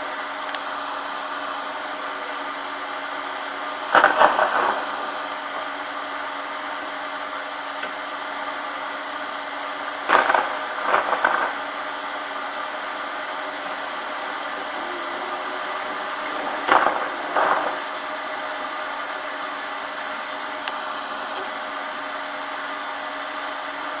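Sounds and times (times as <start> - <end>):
faint constant hum: 0.0 - 24.0
heavy rain downpour: 0.0 - 24.0
loud crackling bursts: 0.1 - 24.0.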